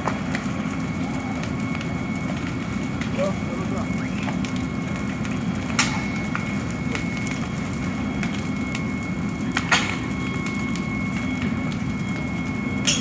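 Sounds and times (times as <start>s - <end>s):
fire crackles and pops: 0.0s - 13.0s
fire rumbling: 0.0s - 13.0s.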